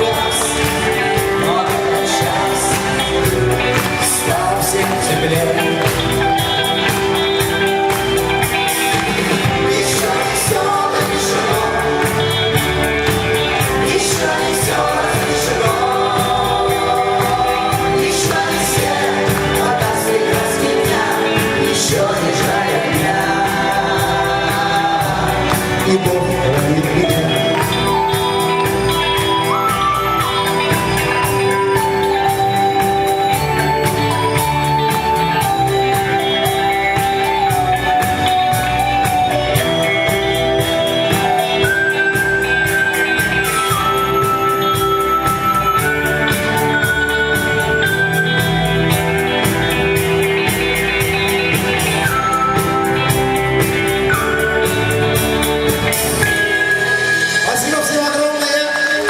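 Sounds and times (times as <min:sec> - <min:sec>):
guitar: 0:00.0 - 0:59.0
lead melody: 0:00.0 - 0:59.0
tambourine-like percussion: 0:00.0 - 0:59.0.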